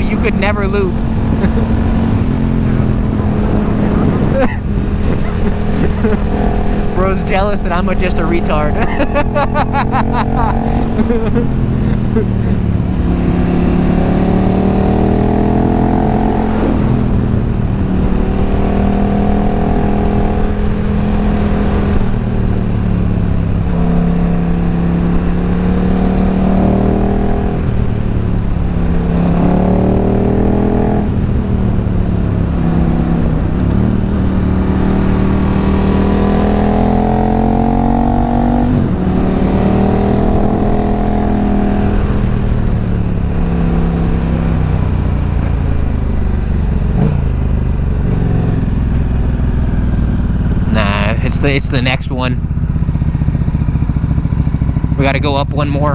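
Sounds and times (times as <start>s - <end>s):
motorcycle accelerating through gears: 0.0s - 55.9s.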